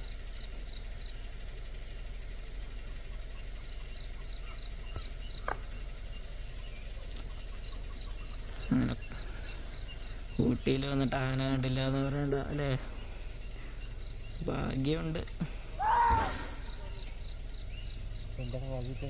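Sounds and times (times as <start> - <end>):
high-pitched insect drone: 0.0 - 19.0
insects chirping in pulses: 0.0 - 19.0.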